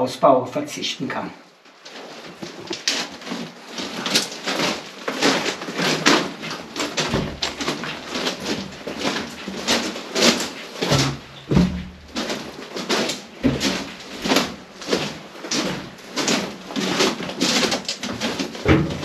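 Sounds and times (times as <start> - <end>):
footsteps in a tunnel: 1.6 - 19.0.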